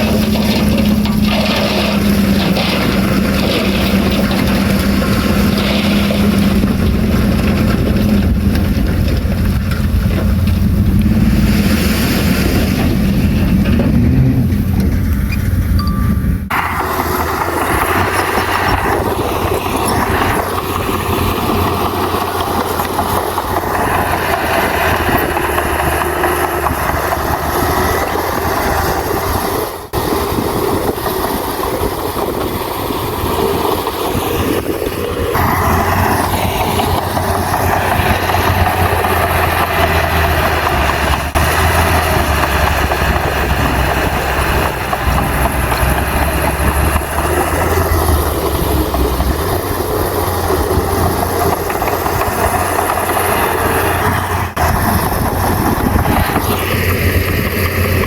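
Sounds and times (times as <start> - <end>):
diesel machine engine running: 0.0 - 58.0.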